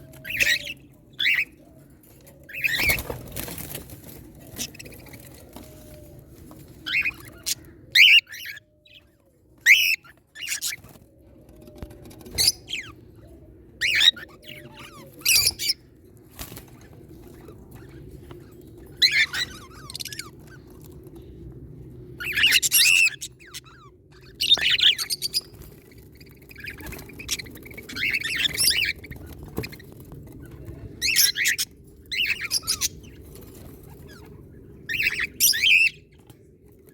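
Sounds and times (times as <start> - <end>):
birds chirping: 0.0 - 36.9
low steady hum: 0.0 - 36.9.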